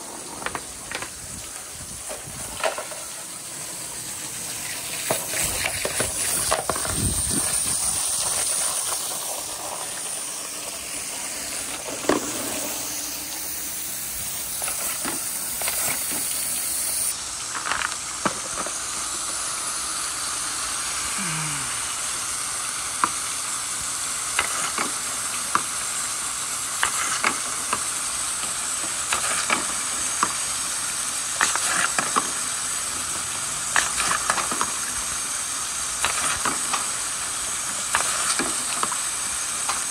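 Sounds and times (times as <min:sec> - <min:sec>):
water rushing down gutters: 0:00.0 - 0:39.9.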